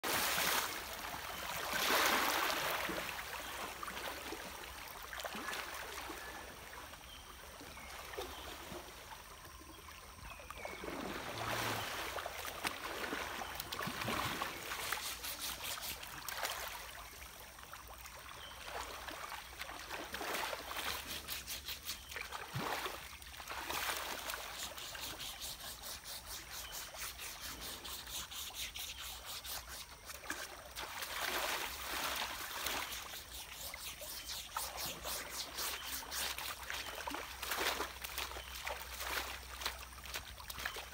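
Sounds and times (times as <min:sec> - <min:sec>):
water splashing: 0:00.0 - 0:06.1, 0:10.6 - 0:40.9
flowing river water: 0:00.0 - 0:40.9.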